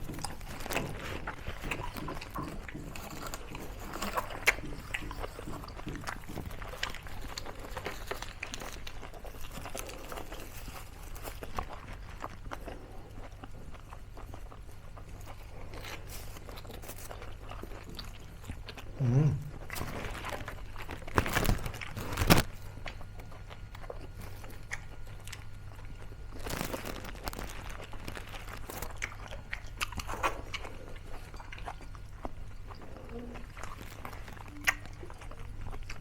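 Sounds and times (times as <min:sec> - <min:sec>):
small crackles: 0:00.0 - 0:19.0, 0:19.6 - 0:36.0
crunching and chewing crispy food: 0:00.0 - 0:36.0.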